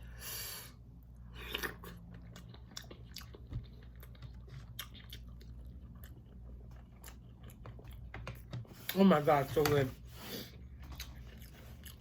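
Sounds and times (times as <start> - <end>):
person chewing: 1.0 - 9.0, 10.2 - 12.0.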